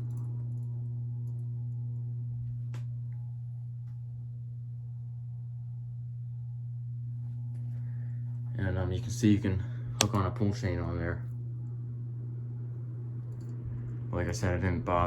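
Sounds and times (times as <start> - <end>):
ceiling fan motor humming: 0.0 - 15.0.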